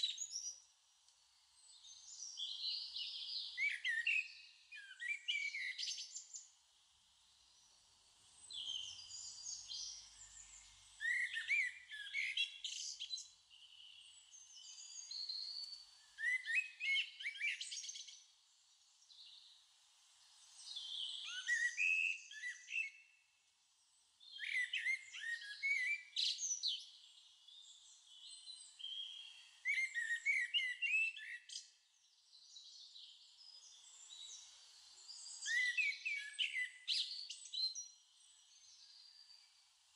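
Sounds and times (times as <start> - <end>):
songbird chirping and warbling: 0.0 - 39.9.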